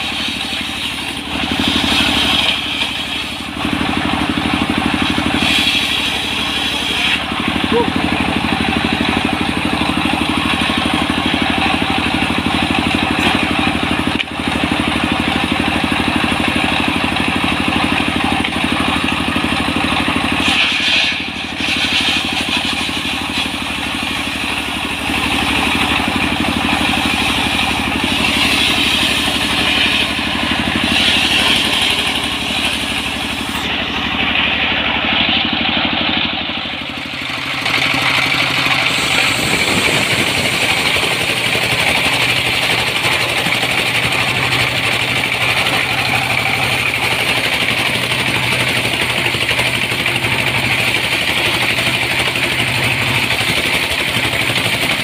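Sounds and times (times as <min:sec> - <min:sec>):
diesel engine knocking: 0:00.0 - 0:55.0
saw blade cutting wood: 0:00.0 - 0:55.0.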